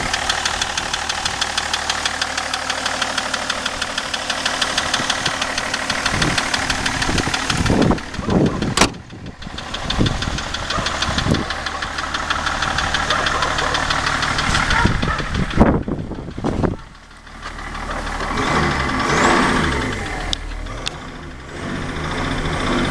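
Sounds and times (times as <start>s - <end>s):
diesel engine running: 0.0s - 22.9s
rapid engine knock: 0.0s - 22.9s.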